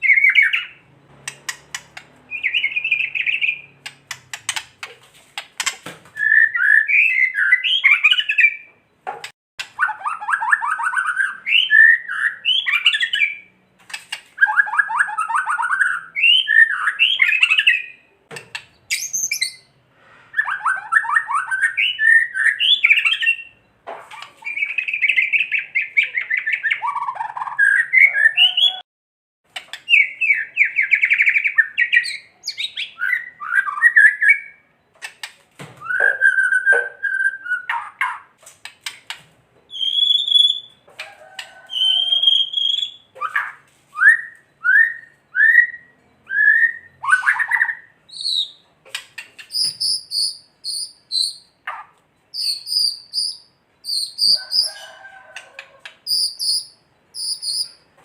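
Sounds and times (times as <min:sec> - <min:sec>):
whistled bird song: 0:00.0 - 0:00.9, 0:02.3 - 0:03.9, 0:06.1 - 0:08.8, 0:09.8 - 0:13.8, 0:14.4 - 0:18.2, 0:18.8 - 0:28.8, 0:29.8 - 0:34.9, 0:35.8 - 0:38.3, 0:39.6 - 0:48.7, 0:49.4 - 0:57.9.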